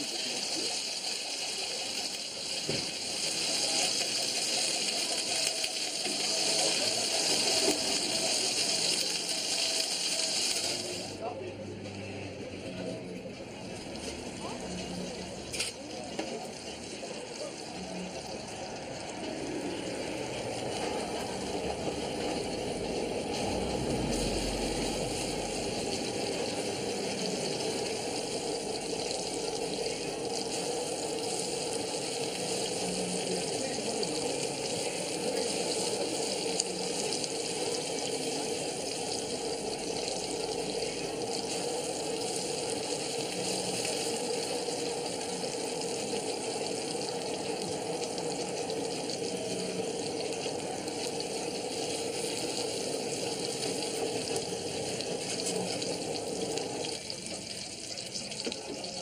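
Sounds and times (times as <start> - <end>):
blowtorch hissing: 0.0 - 11.2, 17.4 - 59.0
meat sizzling: 0.0 - 11.2, 13.9 - 59.0.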